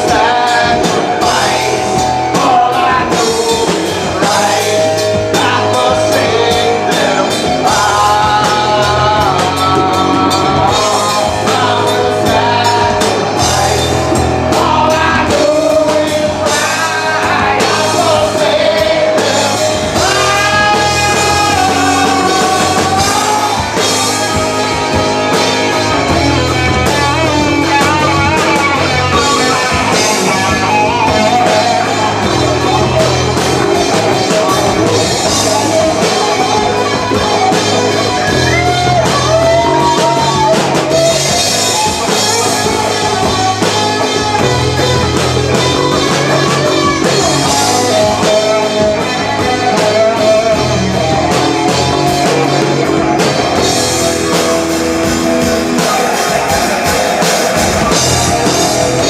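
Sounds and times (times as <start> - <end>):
lead vocal singing: 0.0 - 59.0
live rock band playing: 0.0 - 59.0.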